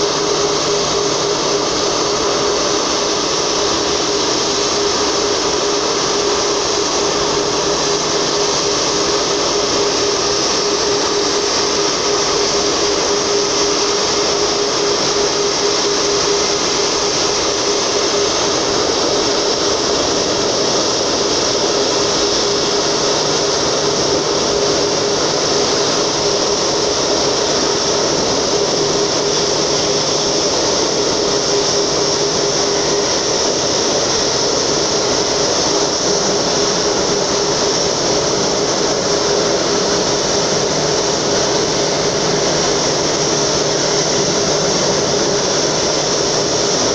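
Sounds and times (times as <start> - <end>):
jet engines at taxi power: 0.0 - 46.9.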